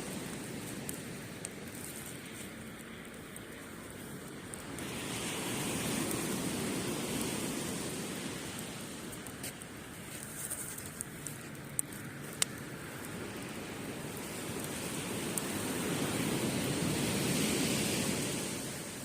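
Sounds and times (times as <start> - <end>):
campfire crackling: 0.0 - 19.0
surf washing up beach: 0.0 - 19.0.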